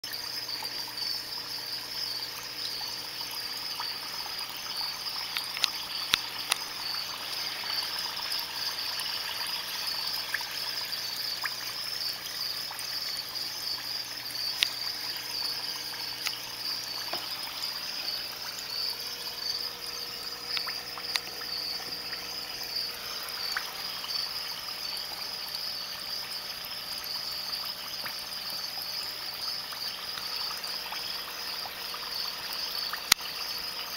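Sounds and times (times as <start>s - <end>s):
faint pump hum: 0.0s - 33.9s.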